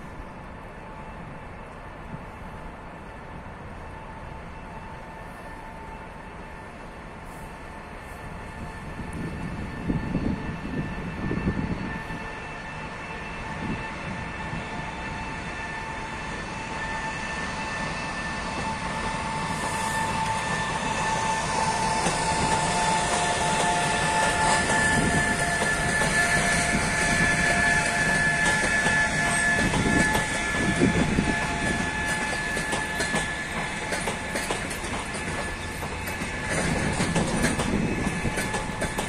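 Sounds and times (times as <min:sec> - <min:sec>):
electric locomotive whine: 0:00.0 - 0:39.0
train wheels rumbling on rail: 0:00.0 - 0:39.0.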